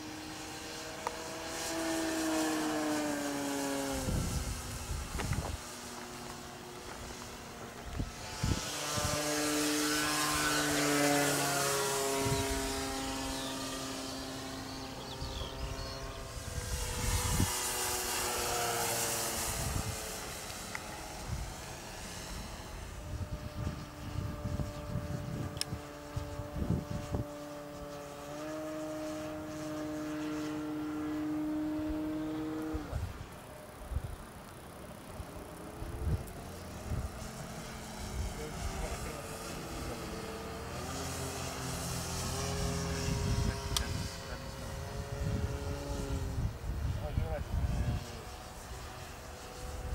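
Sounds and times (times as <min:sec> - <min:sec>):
model plane motor whining: 0:00.0 - 0:49.9.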